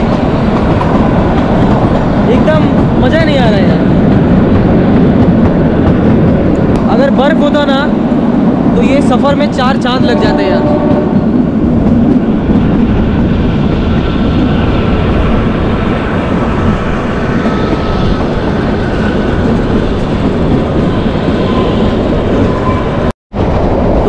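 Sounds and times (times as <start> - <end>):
train coach rumbling: 0.0 - 24.0.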